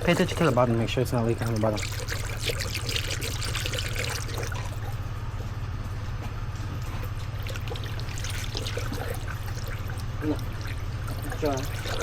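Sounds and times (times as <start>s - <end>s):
coolant pouring: 0.0s - 5.3s, 6.8s - 12.0s.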